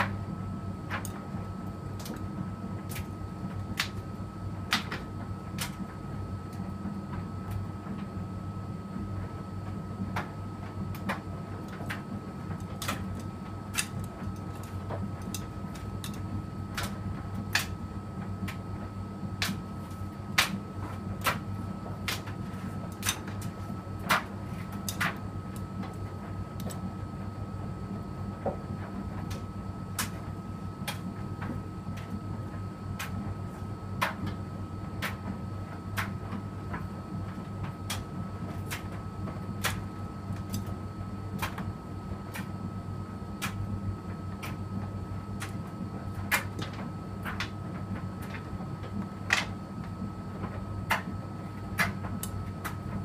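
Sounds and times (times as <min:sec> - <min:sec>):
washing machine humming: 0:00.0 - 0:53.0.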